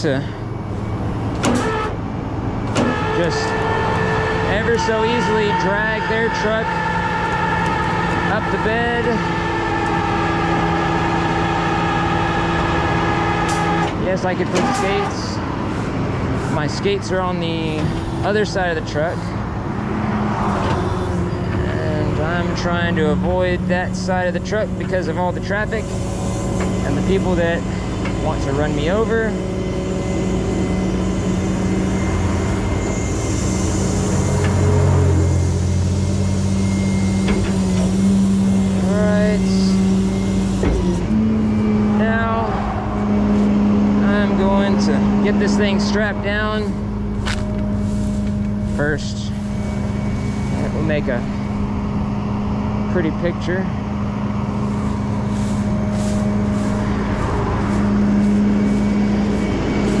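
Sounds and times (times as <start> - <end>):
deep drone: 0.0 - 60.0
passing highway traffic: 0.0 - 60.0
truck engine running: 0.0 - 60.0
winch humming: 0.0 - 60.0.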